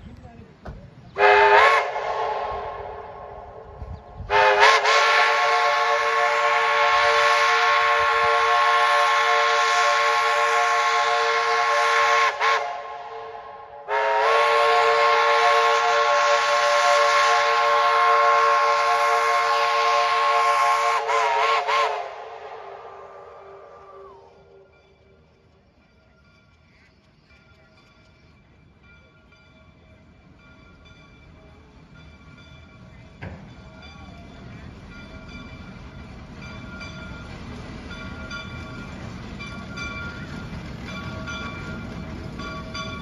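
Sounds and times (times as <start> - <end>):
steam locomotive chime whistle: 1.2 - 43.0.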